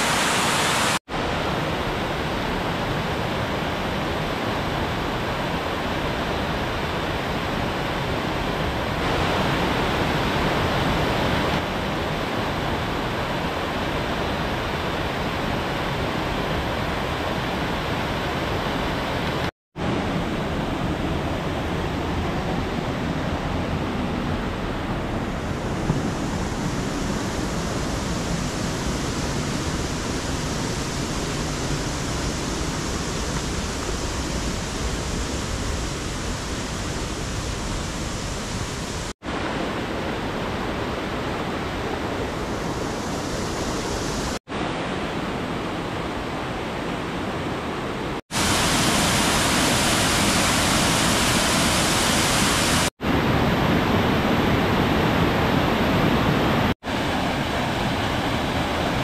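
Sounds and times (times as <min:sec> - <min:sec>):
stream rushing over rocks: 0:00.0 - 0:22.2, 0:25.7 - 0:59.0.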